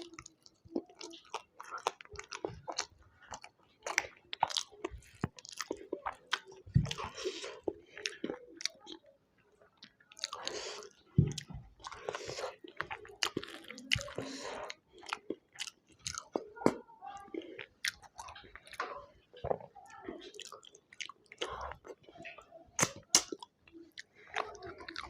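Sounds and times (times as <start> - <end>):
person chewing with mouth clicks: 0.0 - 18.9, 19.9 - 25.0.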